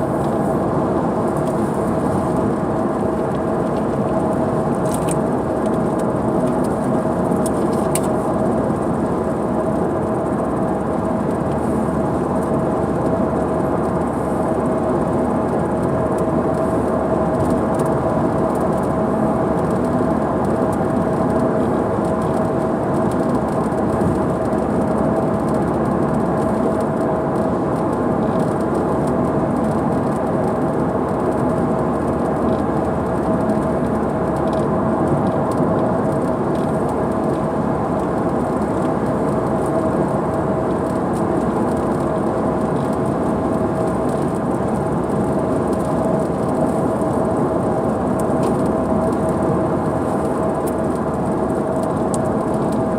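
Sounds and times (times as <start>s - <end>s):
constant hum: 0.0s - 52.9s
heavy rain on a car: 0.0s - 52.9s.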